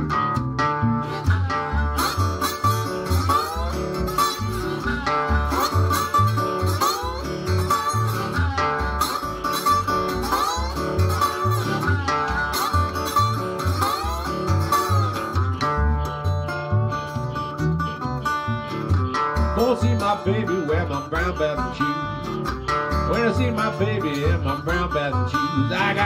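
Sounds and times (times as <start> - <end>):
harmonica bent notes: 0.0 - 26.0
slide guitar: 0.0 - 26.0
washtub bass plucking: 0.0 - 26.0.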